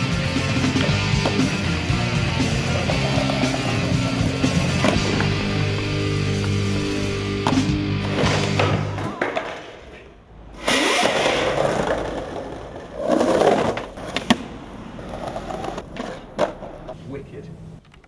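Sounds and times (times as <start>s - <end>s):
skateboard rolling over cobblestones: 0.0s - 17.0s
skateboard clacks: 0.3s - 10.1s, 11.0s - 17.0s.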